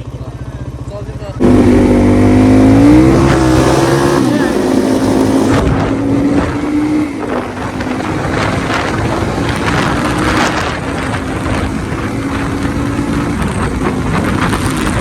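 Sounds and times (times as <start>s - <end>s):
vehicle engine humming: 0.0s - 15.0s
wind buffeting microphone: 1.4s - 15.0s.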